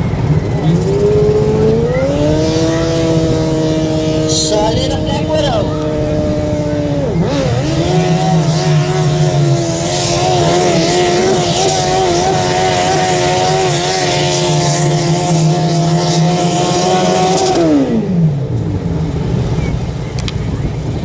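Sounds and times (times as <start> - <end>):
tractor engine at high revs: 0.0 - 21.0.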